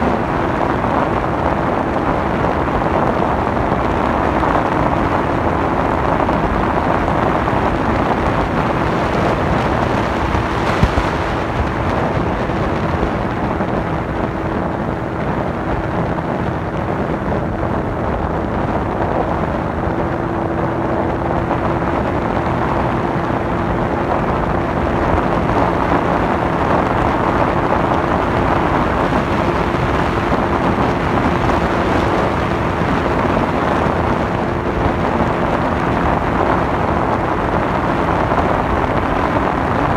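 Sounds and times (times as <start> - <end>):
outboard motor running: 0.0 - 39.9
wind buffeting microphone: 0.0 - 39.9.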